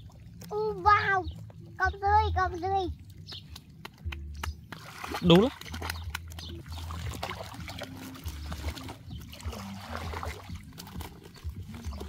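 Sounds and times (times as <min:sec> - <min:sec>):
small splashes: 0:00.0 - 0:01.6, 0:02.9 - 0:12.0
muddy water sloshing: 0:00.0 - 0:12.0.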